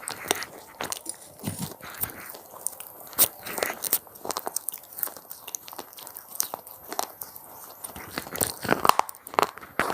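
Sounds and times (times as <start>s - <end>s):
crunchy snacks being chewed: 0.0s - 9.9s.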